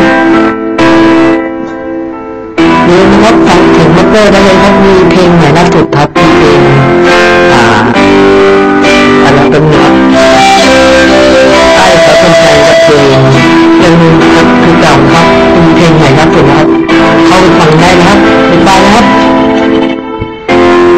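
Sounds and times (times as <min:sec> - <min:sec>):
song with strummed guitar: 0:00.0 - 0:20.9.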